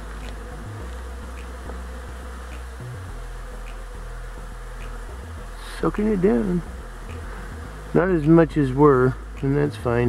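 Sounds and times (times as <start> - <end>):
honey bees buzzing: 0.0 - 10.0.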